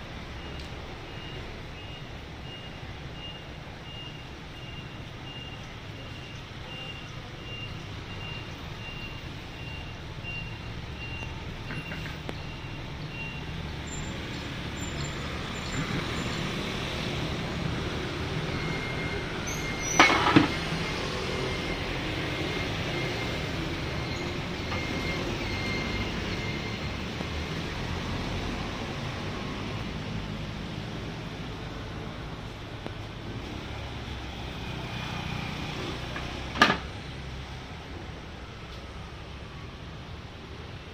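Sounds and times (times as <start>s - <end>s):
traffic rumble: 0.0s - 40.9s.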